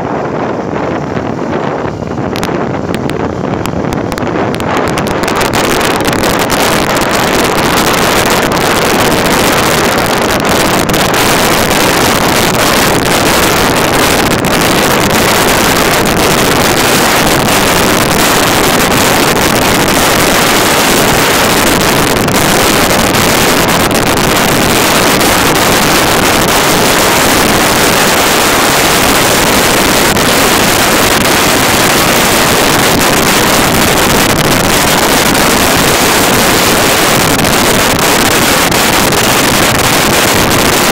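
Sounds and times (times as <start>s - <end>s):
motorcycle engine: 0.0s - 40.9s
wind rushing over microphone: 0.0s - 40.9s.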